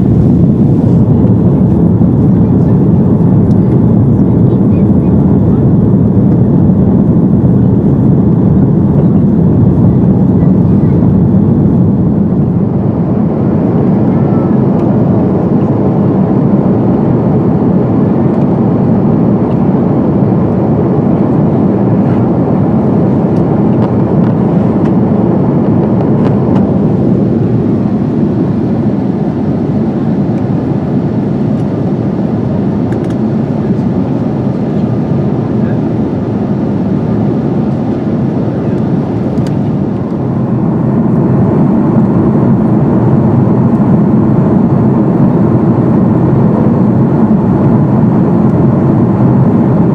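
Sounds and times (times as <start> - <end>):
jet engine and airflow rumble: 0.0 - 49.9.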